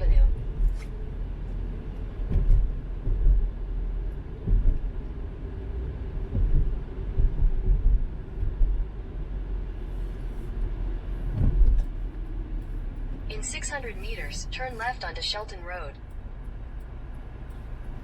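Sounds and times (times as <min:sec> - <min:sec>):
car road noise from inside: 0:00.0 - 0:18.0.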